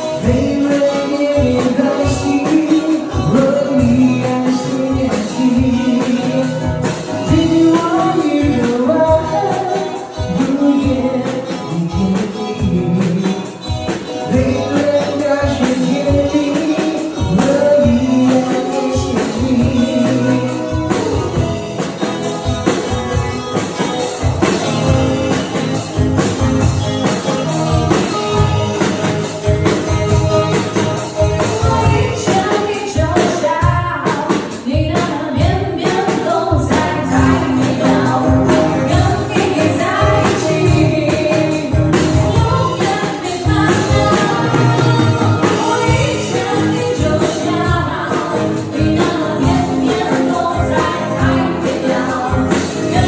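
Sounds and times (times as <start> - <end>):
pop song with singing: 0.0 - 53.0.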